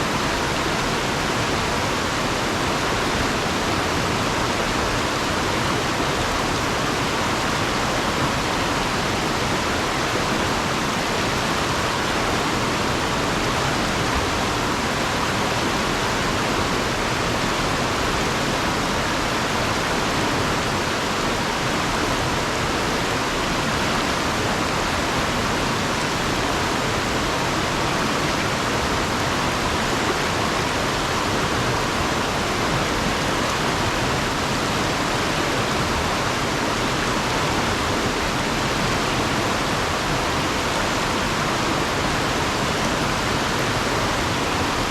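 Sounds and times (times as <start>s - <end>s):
river water rushing over rocks: 0.0s - 44.9s.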